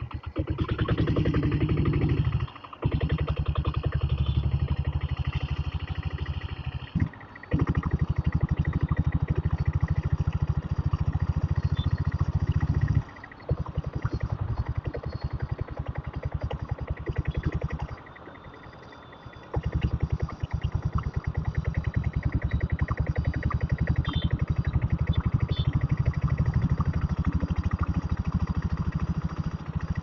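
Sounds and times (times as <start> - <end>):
single-cylinder diesel engine running: 0.0 - 30.0.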